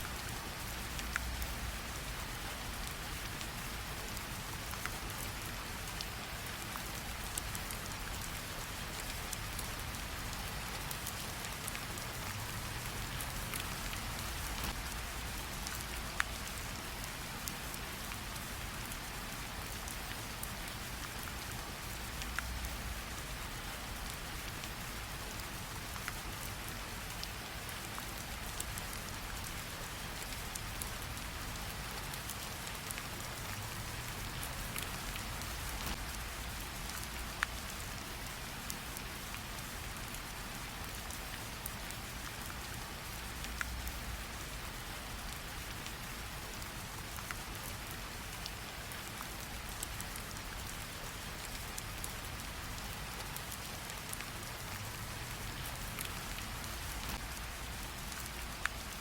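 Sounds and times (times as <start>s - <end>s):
steady rain on a surface: 0.0s - 59.0s.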